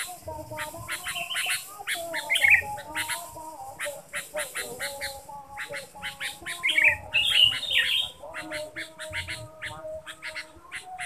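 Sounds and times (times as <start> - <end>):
bird chattering calls: 0.0 - 11.0.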